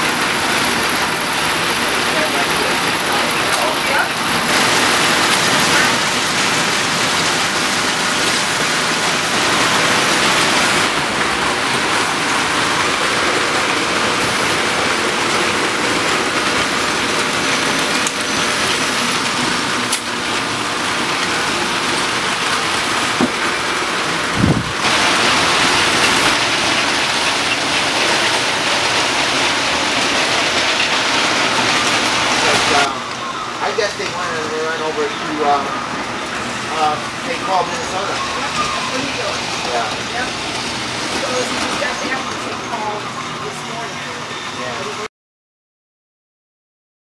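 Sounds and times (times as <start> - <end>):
toy trains running on metal track: 0.0 - 45.1.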